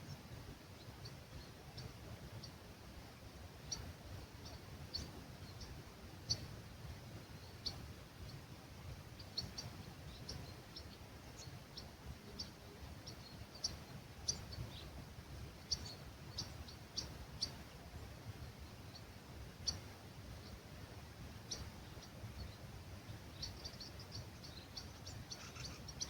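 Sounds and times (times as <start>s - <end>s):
faint breeze rumble: 0.0s - 26.0s
small birds chirping: 0.0s - 26.0s.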